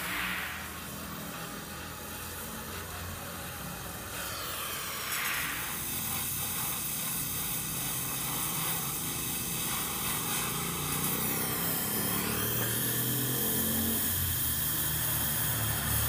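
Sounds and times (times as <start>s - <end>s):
welding torch flame hissing: 0.0s - 16.0s.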